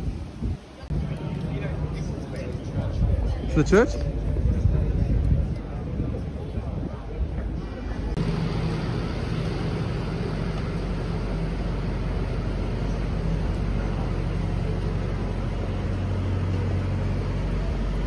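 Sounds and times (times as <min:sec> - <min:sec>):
road noise: 0:00.0 - 0:18.0
vehicle engines humming: 0:00.8 - 0:18.0.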